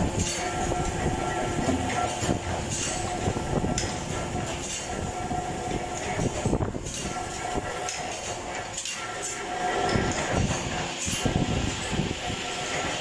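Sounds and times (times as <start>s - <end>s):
hydraulic press humming: 0.0s - 13.0s.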